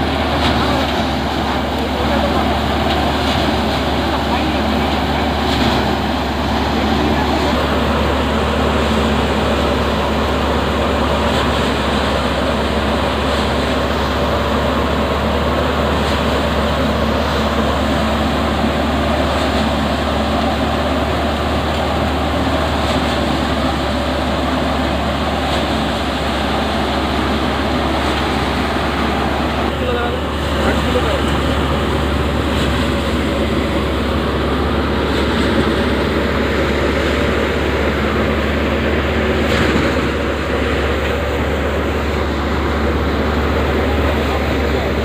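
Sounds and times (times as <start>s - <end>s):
thresher mechanical drone: 0.0s - 45.0s
tractor engine running: 0.0s - 45.0s.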